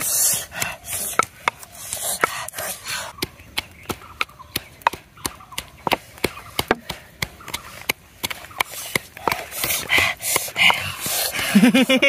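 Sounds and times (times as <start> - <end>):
pestle pounding in wooden mortar: 0.0 - 11.6.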